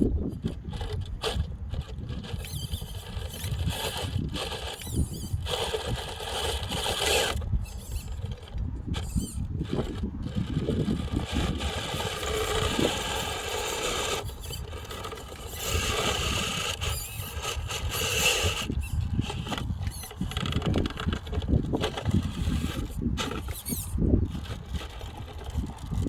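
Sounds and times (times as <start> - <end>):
electric motor and gears whining: 0.0 - 26.0.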